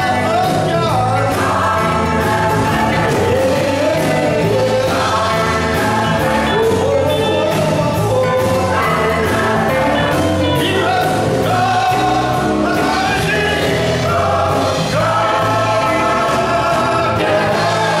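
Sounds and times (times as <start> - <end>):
gospel choir singing: 0.0 - 18.0
man singing lead: 0.0 - 18.0.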